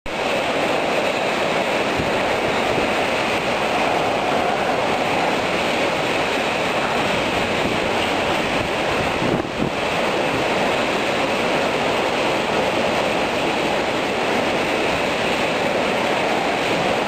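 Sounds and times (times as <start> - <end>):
gusting wind: 0.1 - 17.0
heavy wind-driven rain: 0.1 - 17.0.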